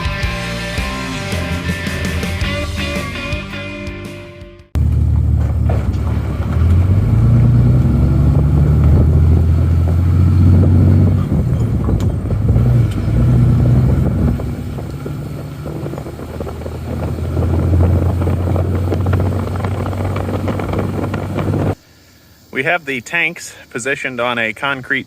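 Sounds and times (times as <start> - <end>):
diesel engine revving under load: 0.0 - 3.5, 4.8 - 21.8.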